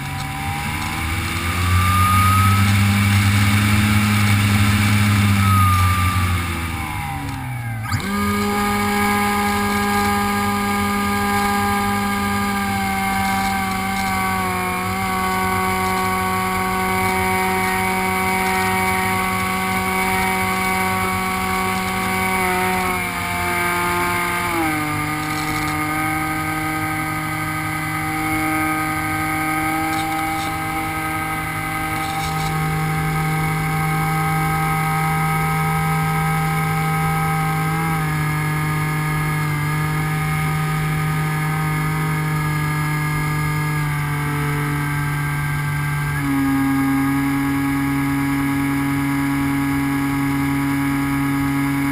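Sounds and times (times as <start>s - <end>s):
model plane motor droning: 0.0s - 51.9s.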